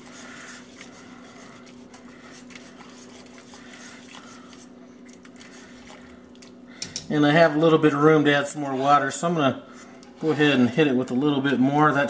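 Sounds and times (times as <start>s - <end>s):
whisk scraping metal pot: 0.0s - 6.6s, 7.2s - 12.0s
steady low hum: 0.0s - 12.0s.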